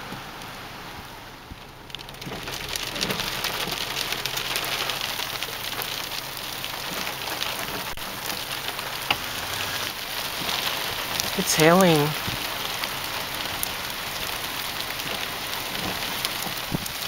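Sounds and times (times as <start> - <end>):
hail and rain hitting surfaces: 1.6 - 17.0.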